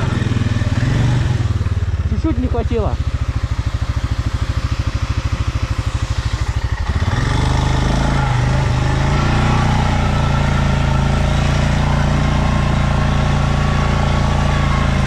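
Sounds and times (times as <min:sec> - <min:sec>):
atv engine idling and revving: 0:00.0 - 0:15.0.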